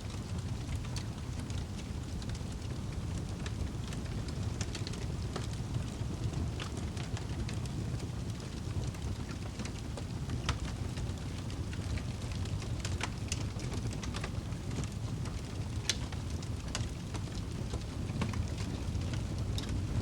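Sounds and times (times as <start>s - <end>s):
low roar of flames: 0.0s - 20.0s
wood crackling and popping: 0.0s - 20.0s.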